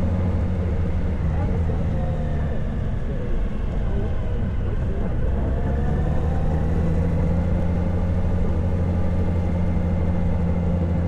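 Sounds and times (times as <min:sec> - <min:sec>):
motorcycle engine hum: 0:00.0 - 0:11.0.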